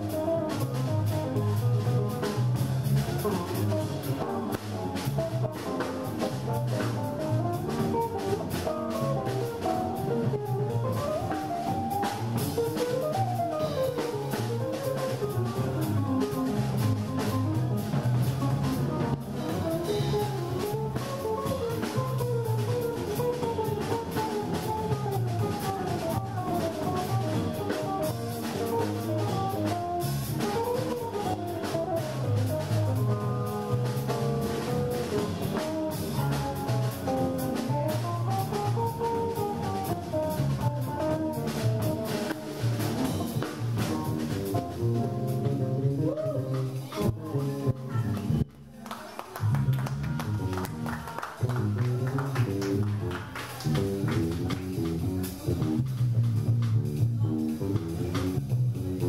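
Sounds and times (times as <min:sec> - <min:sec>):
walking bass line: 0:00.0 - 0:48.8, 0:49.4 - 0:59.0.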